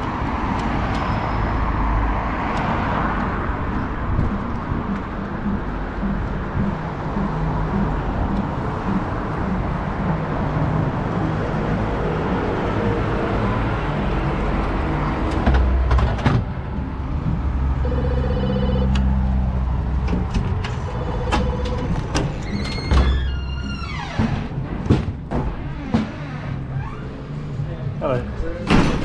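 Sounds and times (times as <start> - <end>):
street background: 0.0 - 29.0.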